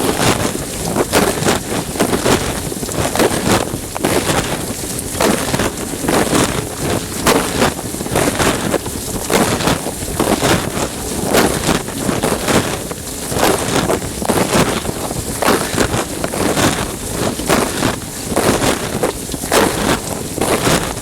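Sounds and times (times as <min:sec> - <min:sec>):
water jets splashing on plastic: 0:00.0 - 0:21.0.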